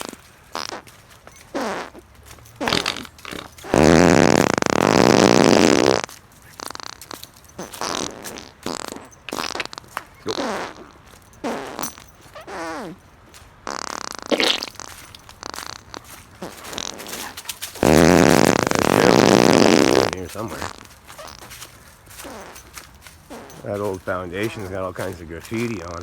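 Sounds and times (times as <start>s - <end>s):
farts: 0.0s - 26.0s.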